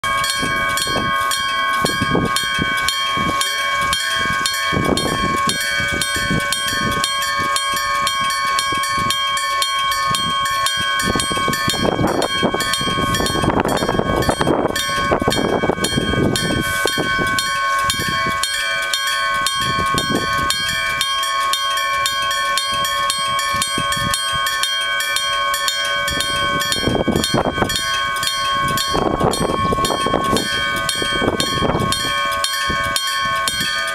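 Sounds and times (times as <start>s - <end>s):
level crossing bell ringing: 0.0s - 33.9s
train rumbling past: 0.0s - 33.9s.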